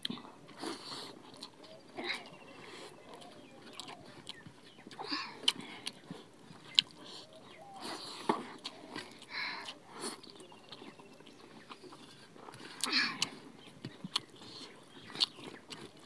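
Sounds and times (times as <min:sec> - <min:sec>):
chewing and lip-smacking: 0:00.0 - 0:16.0.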